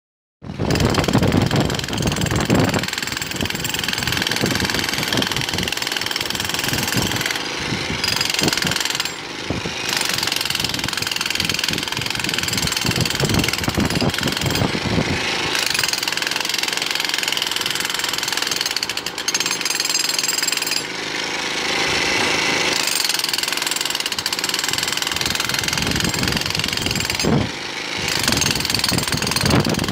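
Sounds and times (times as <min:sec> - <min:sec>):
jackhammer hammering: 0:00.5 - 0:29.9.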